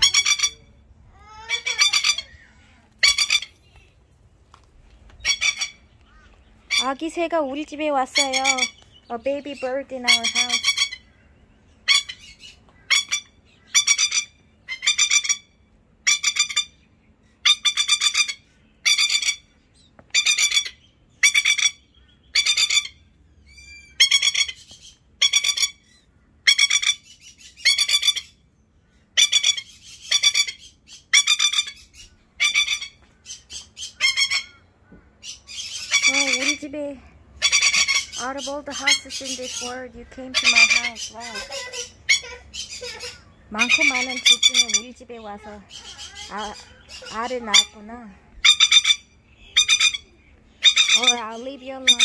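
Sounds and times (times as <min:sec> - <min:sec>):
lapwing harsh chattering calls: 0:00.0 - 0:03.8, 0:05.2 - 0:07.3, 0:08.0 - 0:16.8, 0:17.4 - 0:19.6, 0:20.2 - 0:28.4, 0:29.0 - 0:52.0.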